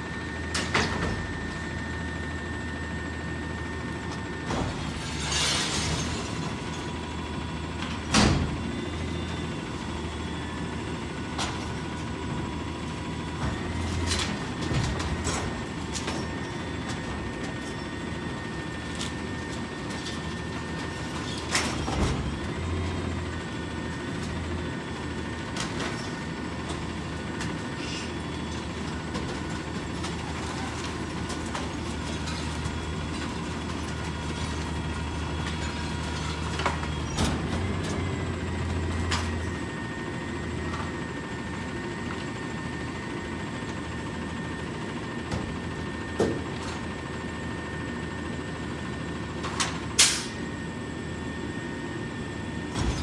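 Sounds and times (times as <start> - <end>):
truck engine drone: 0.0 - 53.0.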